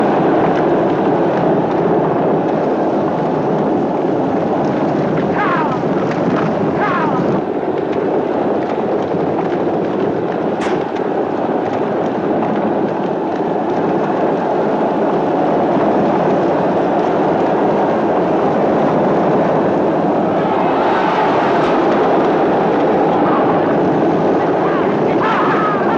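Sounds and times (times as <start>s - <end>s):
galloping hooves and wheels rumbling: 0.0s - 25.9s.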